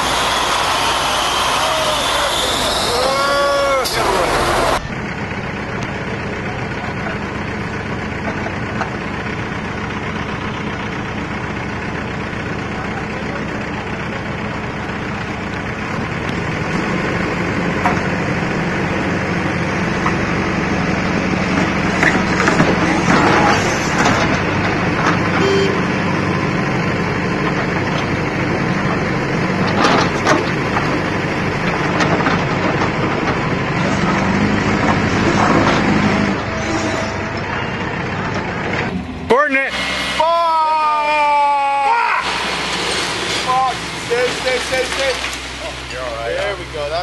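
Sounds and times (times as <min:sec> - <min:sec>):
diesel engines running under load: 0:00.0 - 0:47.0.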